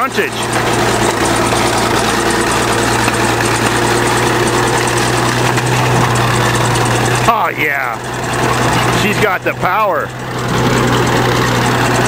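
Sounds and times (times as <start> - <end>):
bulldozer diesel engine under load: 0.0 - 12.0.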